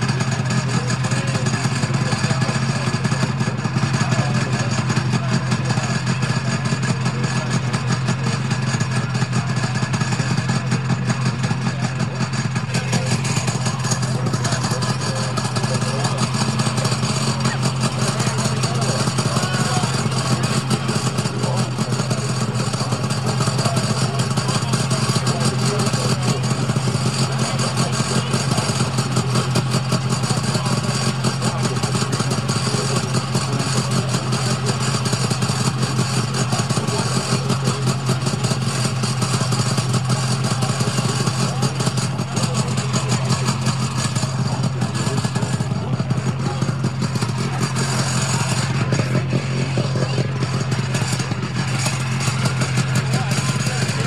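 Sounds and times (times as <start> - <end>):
snowmobile engine idling: 0.0 - 54.0.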